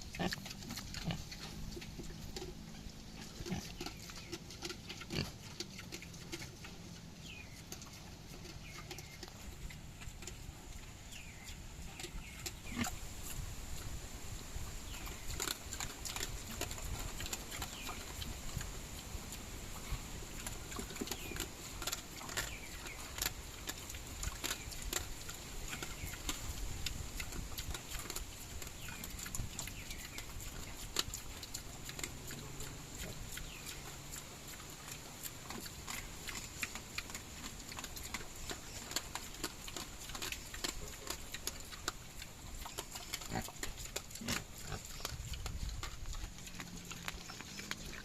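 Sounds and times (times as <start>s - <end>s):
pigs chewing with wet crunching: 0.0s - 48.0s
steady high-pitched hiss: 0.0s - 48.0s.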